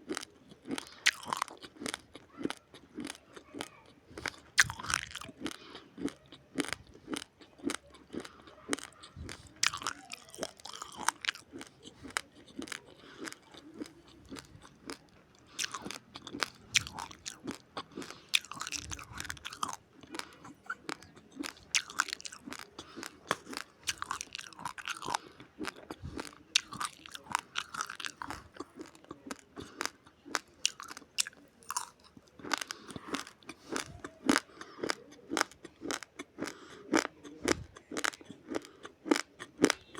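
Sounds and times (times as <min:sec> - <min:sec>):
person chewing raw rice crunching: 0:00.0 - 0:39.9.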